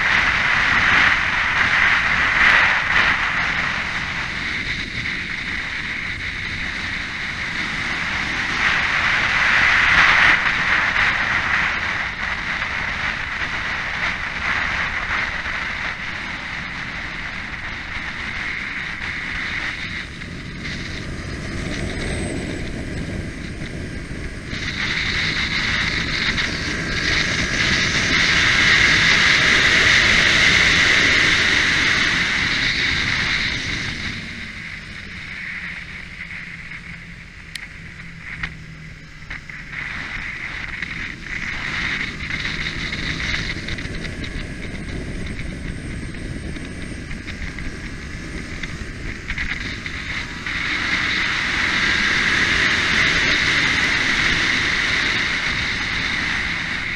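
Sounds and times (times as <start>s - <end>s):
motorcycle engine at speed: 0.0s - 56.9s
wind rush on microphone: 0.0s - 56.9s.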